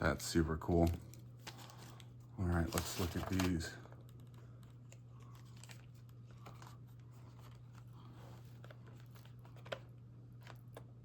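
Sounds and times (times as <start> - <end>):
steady low hum: 0.0 - 11.0
packaging crinkling: 0.6 - 11.0.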